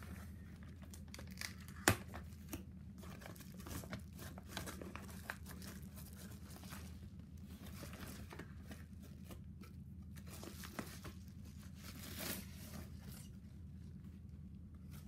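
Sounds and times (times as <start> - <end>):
paper envelope crinkling: 0.0 - 13.4.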